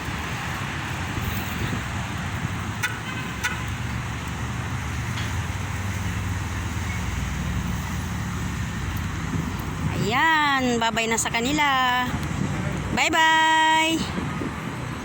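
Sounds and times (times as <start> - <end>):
rumble of passing cars: 0.0 - 15.0.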